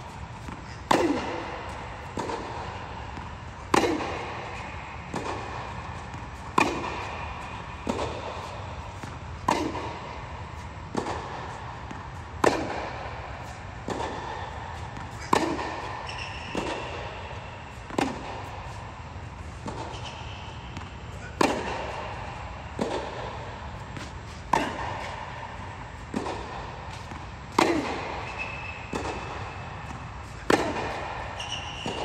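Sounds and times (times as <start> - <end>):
tennis ball struck by rackets: 0.1 - 32.0.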